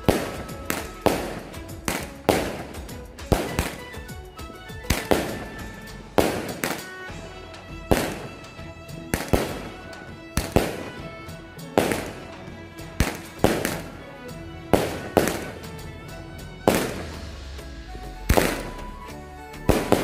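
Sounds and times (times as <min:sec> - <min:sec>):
background music: 0:00.0 - 0:20.0
fireworks bursting: 0:00.0 - 0:20.0.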